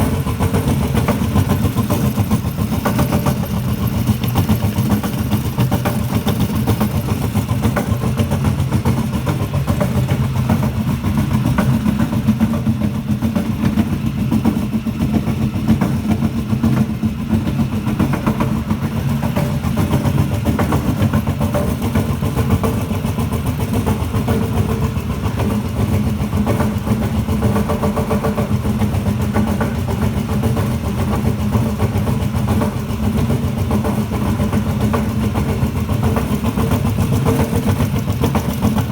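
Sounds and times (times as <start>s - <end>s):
compressor running with pulsing beat: 0.0s - 38.9s.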